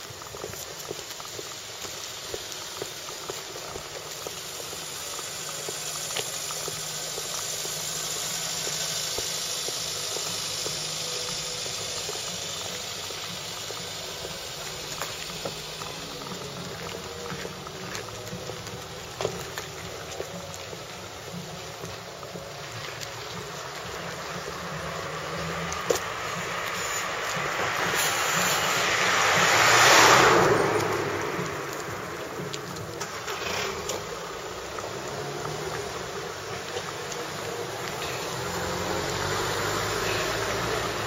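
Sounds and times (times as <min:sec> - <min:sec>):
footsteps on pavement: 0:00.0 - 0:41.0
steady rushing background noise: 0:00.0 - 0:41.0.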